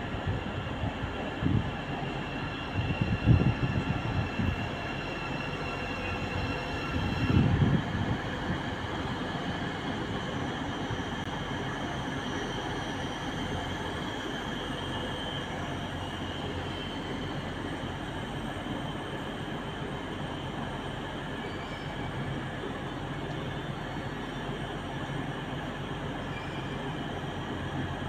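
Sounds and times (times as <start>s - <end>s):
electric trains rumbling and humming: 0.0s - 28.0s
high train whine: 0.0s - 28.0s.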